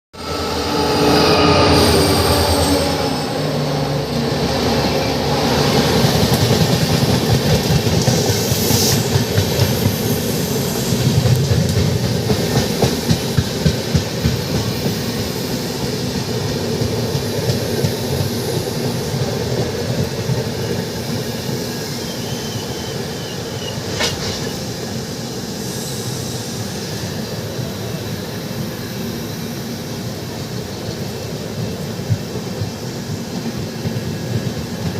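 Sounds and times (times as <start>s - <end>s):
train wheels rumbling: 0.2s - 34.9s.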